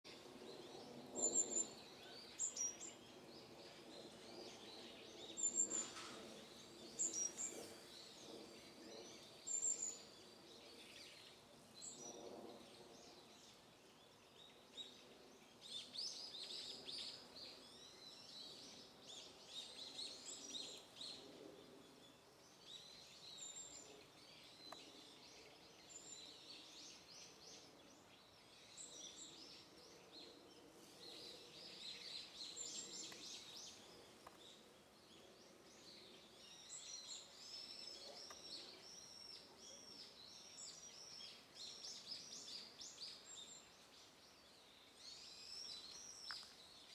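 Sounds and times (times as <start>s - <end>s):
small songbirds calling: 0.0s - 46.9s.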